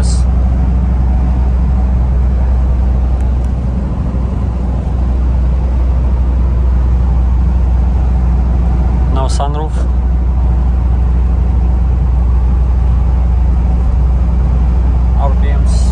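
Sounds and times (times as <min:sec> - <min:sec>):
diesel engine drone in cabin: 0:00.0 - 0:15.9.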